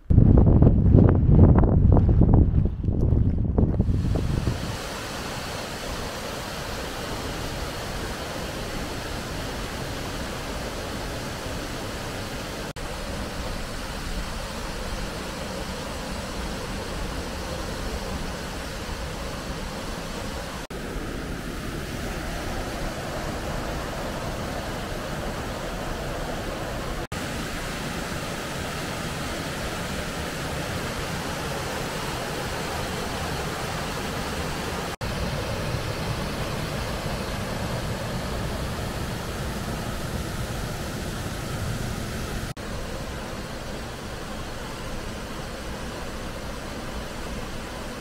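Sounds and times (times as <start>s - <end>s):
fast river water: 3.9s - 48.0s
waterfall rushing: 3.9s - 48.0s.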